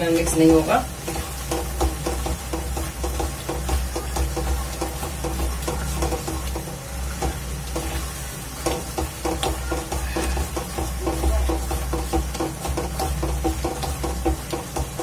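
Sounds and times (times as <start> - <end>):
faint sizzle: 0.0 - 15.0
spatula scraping a pan: 0.0 - 15.0.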